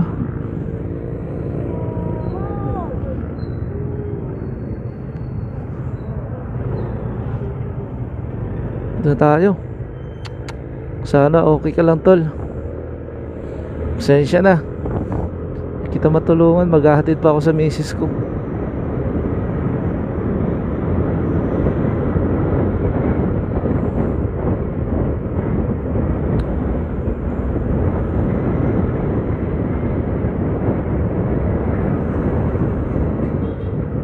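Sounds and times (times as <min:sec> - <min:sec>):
motorcycle wind and road noise: 0:00.0 - 0:34.0.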